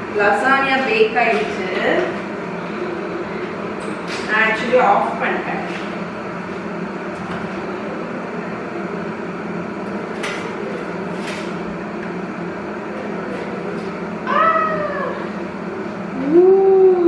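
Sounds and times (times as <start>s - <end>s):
oven fan humming: 0.0s - 17.0s.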